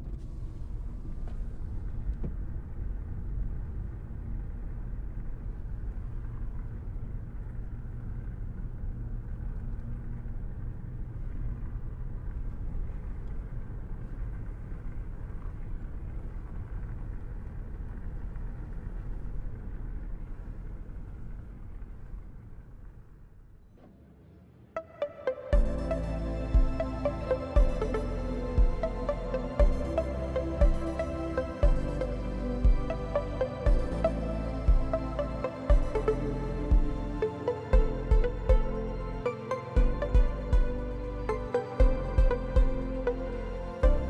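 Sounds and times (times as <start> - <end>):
low rumble of city traffic: 0.0 - 44.0.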